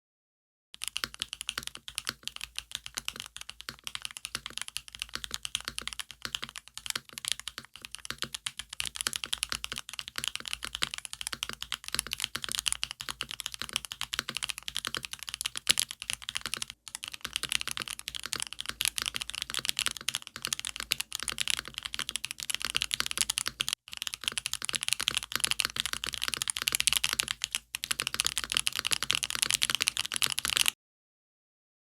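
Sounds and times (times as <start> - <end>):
mechanical keyboard keystroke clacks: 0.8 - 30.8.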